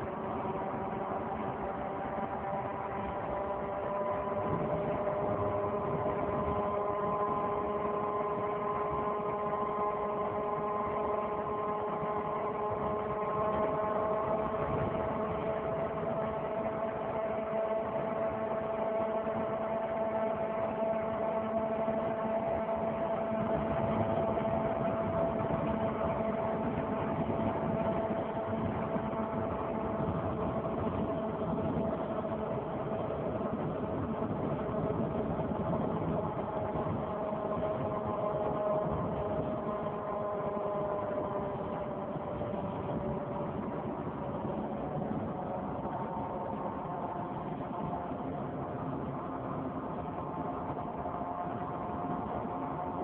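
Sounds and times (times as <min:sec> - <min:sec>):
loud wheel drone: 0:00.0 - 0:53.0.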